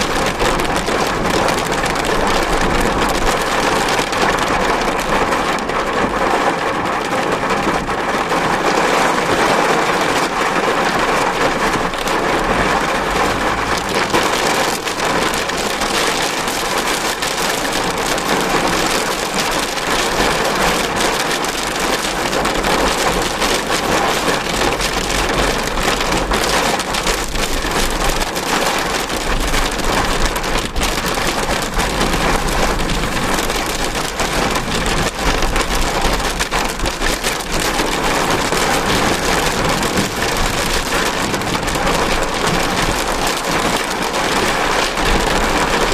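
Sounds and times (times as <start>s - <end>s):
heavy rain beating on a car: 0.0s - 45.9s.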